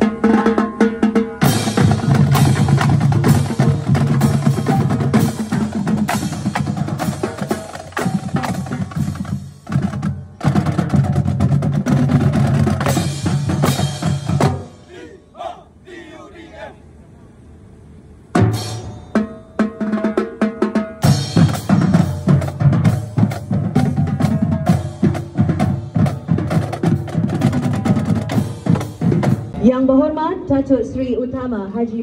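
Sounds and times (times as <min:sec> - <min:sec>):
snare drums: 0:00.0 - 0:15.5, 0:19.2 - 0:29.6.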